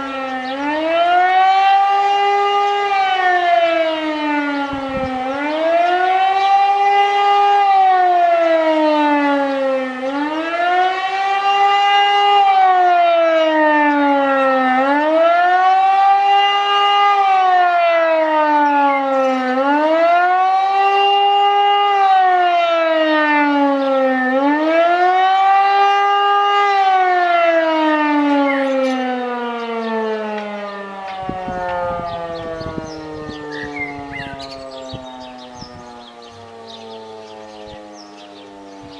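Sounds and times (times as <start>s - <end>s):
civil defence siren wailing: 0.0s - 38.9s.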